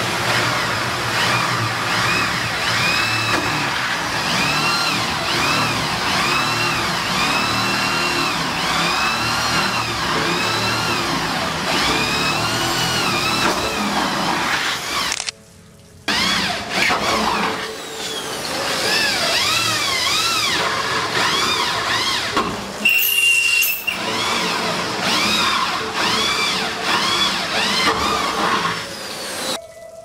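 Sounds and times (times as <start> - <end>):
electric drill boring metal: 0.0 - 15.2, 16.1 - 29.6.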